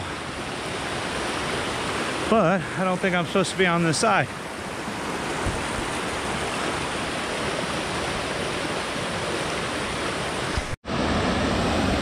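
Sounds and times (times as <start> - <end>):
creek rushing over rocks: 0.0 - 12.0.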